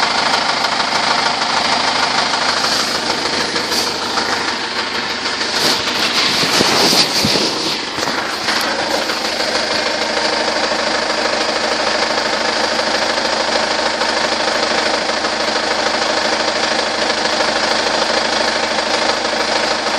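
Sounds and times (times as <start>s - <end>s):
engine idling with knocking: 0.0s - 19.9s.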